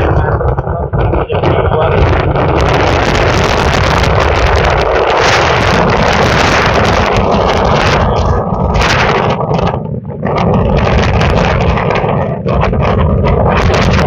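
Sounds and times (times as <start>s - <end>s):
strong wind gusting on microphone: 0.0s - 14.0s.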